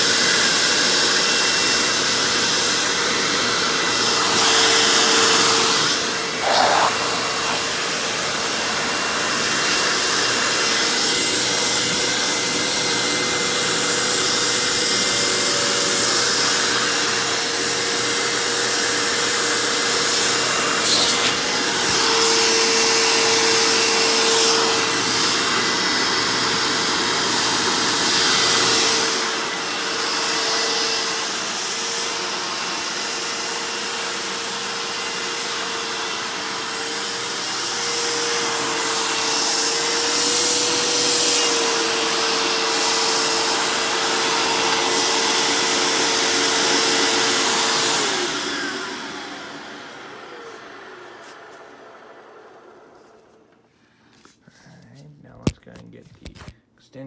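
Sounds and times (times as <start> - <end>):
vacuum cleaner motor whining: 0.0 - 53.7.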